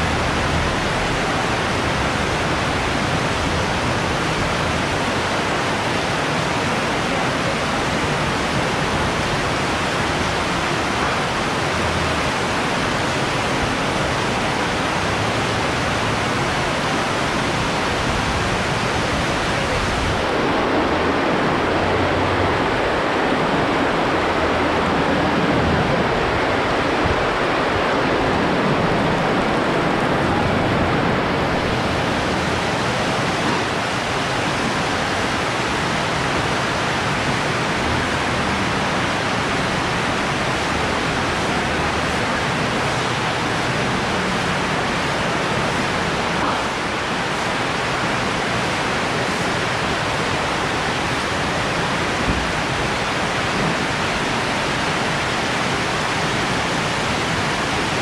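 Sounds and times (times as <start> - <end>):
heavy pouring rain: 0.0 - 58.0.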